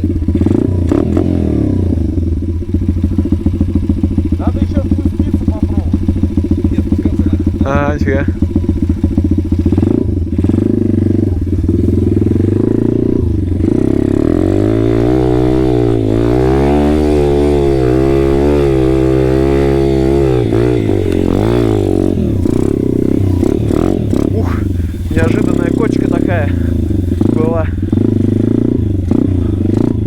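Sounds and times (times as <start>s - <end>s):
moped engine running: 0.0s - 30.0s.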